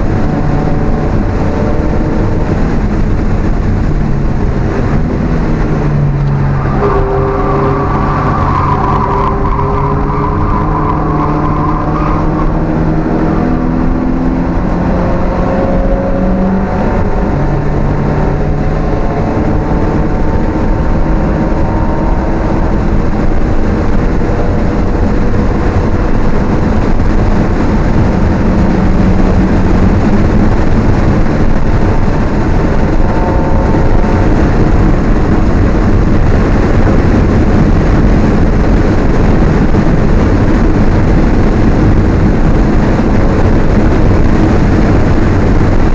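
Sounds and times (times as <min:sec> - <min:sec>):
car engine under hard driving: 0:00.0 - 0:45.9
wind and road noise: 0:00.0 - 0:45.9.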